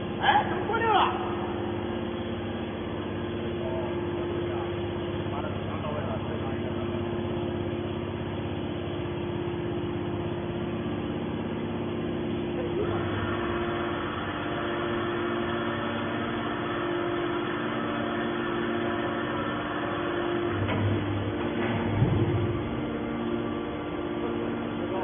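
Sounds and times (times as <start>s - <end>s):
hydraulic baler machinery humming: 0.0s - 25.0s.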